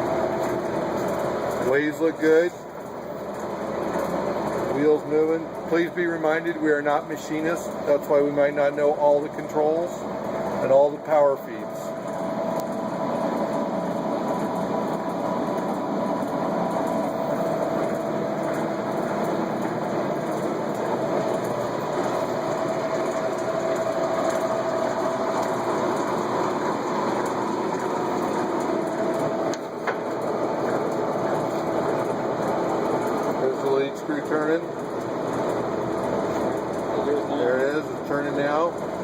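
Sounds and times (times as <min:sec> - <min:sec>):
lathe whirring with whine: 0:00.0 - 0:39.0.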